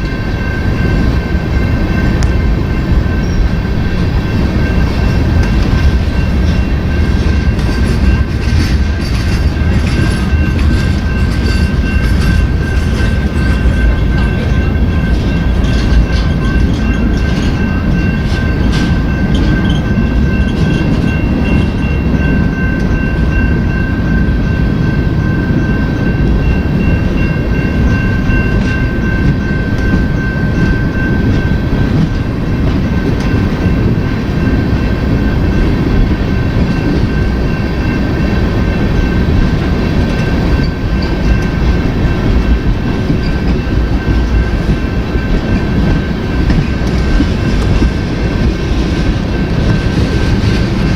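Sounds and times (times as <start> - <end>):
freight train rumbling on rails: 0.0 - 50.9
train wheels clicking: 0.0 - 50.9.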